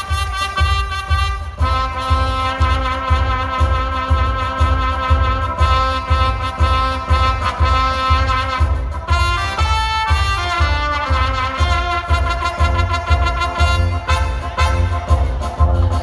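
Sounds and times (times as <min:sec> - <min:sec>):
brass-like electronic keyboard notes: 0:00.0 - 0:16.0
low beat thumps: 0:00.0 - 0:16.0.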